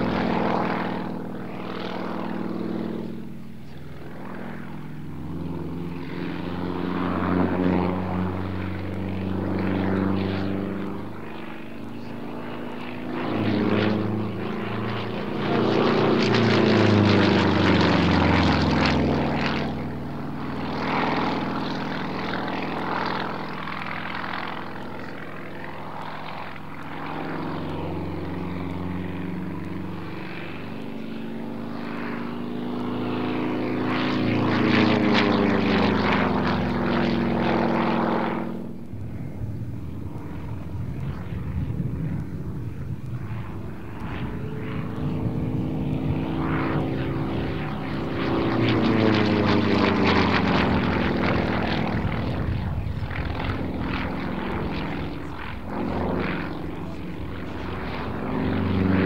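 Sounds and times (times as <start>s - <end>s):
propeller plane engine: 0.0s - 59.0s.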